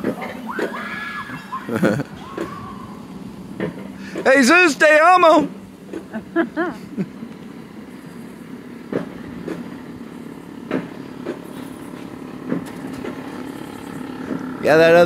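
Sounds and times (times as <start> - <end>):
coaster cart rumbling on rail: 0.0 - 15.0
track clacks: 0.0 - 15.0.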